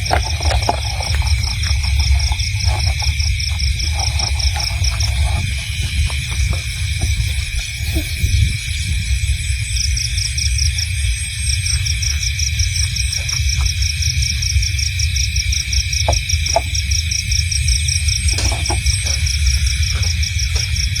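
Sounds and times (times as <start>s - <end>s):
crickets trilling: 0.0s - 21.0s
pulsing cricket chirp: 0.0s - 21.0s
faint short insect calls: 0.4s - 21.0s.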